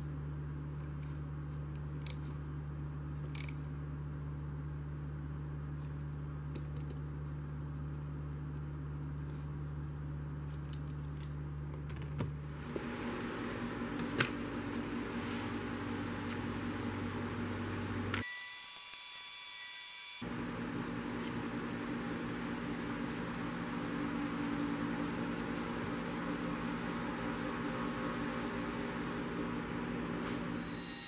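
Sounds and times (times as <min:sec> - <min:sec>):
low machine hum: 0:00.0 - 0:18.2, 0:20.2 - 0:31.0.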